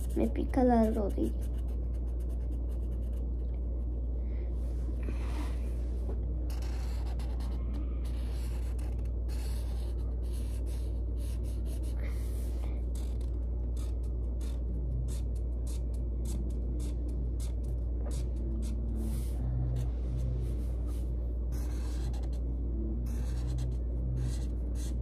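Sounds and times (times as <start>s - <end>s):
marker rubbing on paper: 0.0s - 3.2s, 6.5s - 22.4s, 23.1s - 25.0s
steady low hum: 0.0s - 25.0s.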